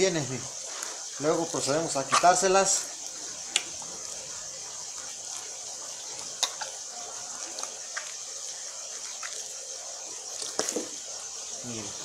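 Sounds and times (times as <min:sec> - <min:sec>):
steady high hiss: 0:00.0 - 0:12.0
wet squishes of gutting fish: 0:00.9 - 0:11.3.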